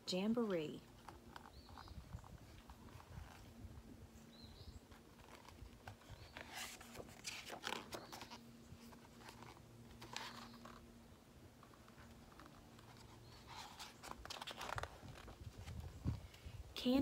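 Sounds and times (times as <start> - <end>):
book pages rustling: 0.9 - 3.8, 4.6 - 16.4.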